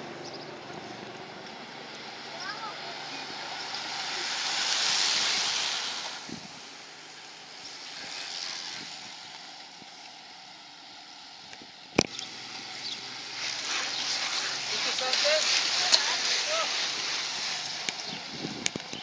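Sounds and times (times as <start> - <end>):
bicycles passing: 0.0 - 19.0.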